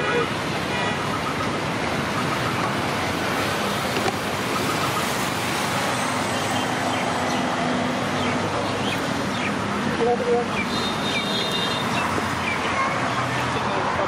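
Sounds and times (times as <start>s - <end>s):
cars and motorbikes passing: 0.0s - 14.0s.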